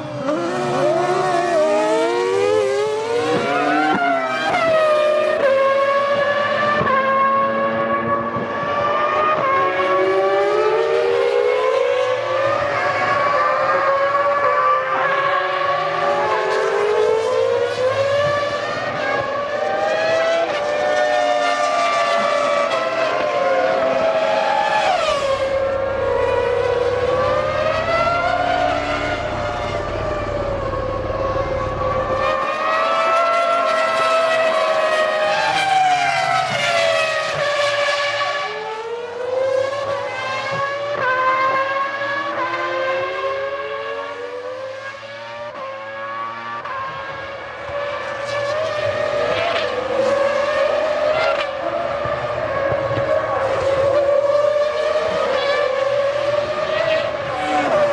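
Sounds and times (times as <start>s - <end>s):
racing car engines revving: 0.0s - 57.9s.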